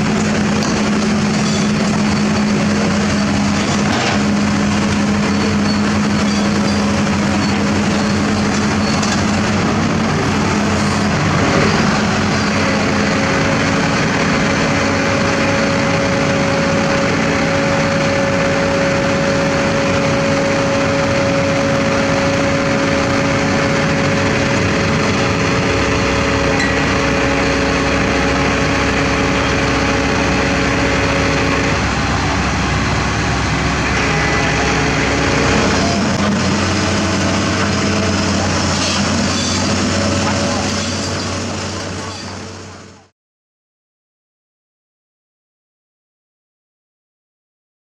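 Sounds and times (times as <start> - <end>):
diesel engine running: 0.0 - 43.1.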